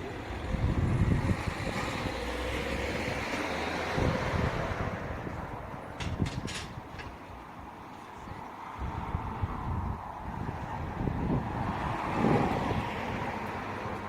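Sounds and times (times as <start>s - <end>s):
wind buffeting microphone: 0.0s - 7.2s, 8.2s - 14.0s.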